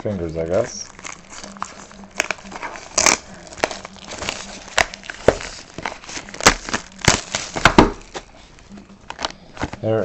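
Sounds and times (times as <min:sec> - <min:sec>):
wrapping crinkling and snapping: 0:00.4 - 0:10.0.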